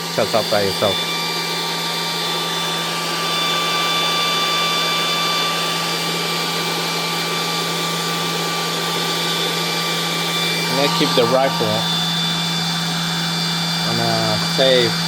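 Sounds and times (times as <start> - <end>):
air compressor humming with whine: 0.0 - 15.0.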